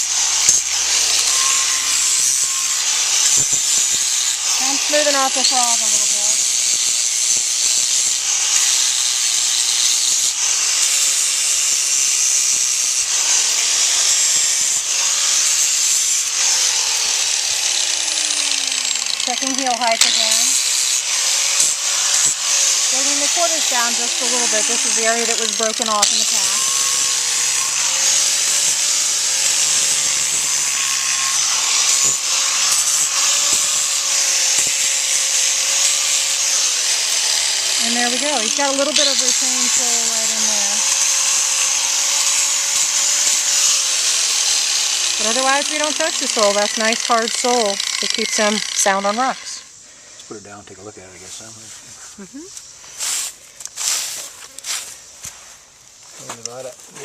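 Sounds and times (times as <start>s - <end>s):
grinder abrading hoof: 0.0s - 49.8s, 50.4s - 57.0s.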